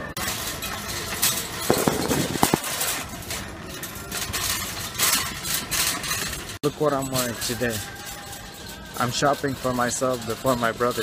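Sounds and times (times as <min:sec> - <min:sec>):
wire shopping trolley rattling: 0:00.0 - 0:11.0.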